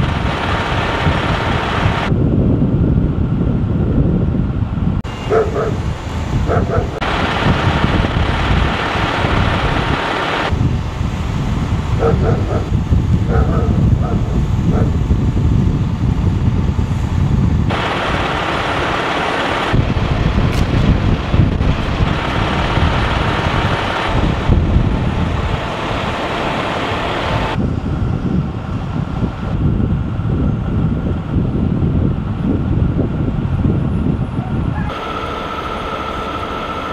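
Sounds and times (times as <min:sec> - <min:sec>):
heavy vehicles idling: 0:04.8 - 0:33.5, 0:34.2 - 0:36.9.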